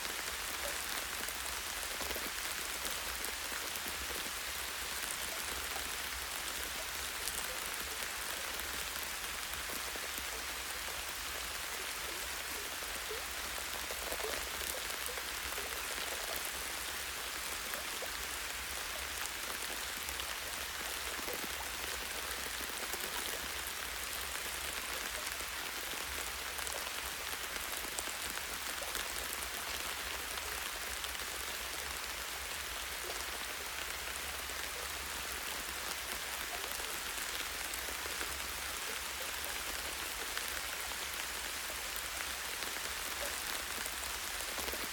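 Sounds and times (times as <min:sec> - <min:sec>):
light rain on leaves: 0:00.0 - 0:44.9.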